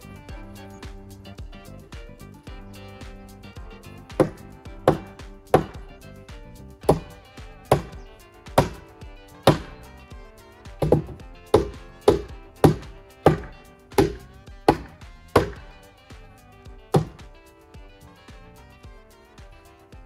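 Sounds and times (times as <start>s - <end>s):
background music: 0.0s - 20.0s
sharp blows on wood: 0.0s - 20.0s.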